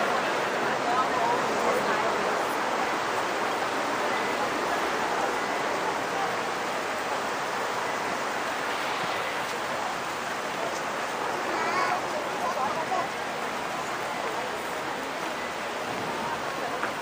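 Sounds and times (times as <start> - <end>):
busy waterfront ambience: 0.0 - 17.0.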